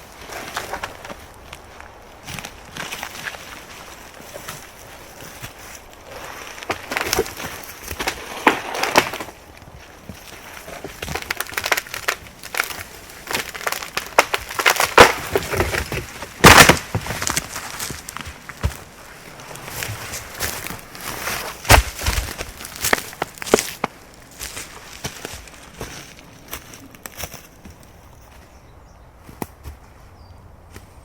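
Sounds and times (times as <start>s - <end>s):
dry wood cracking: 0.0s - 28.5s.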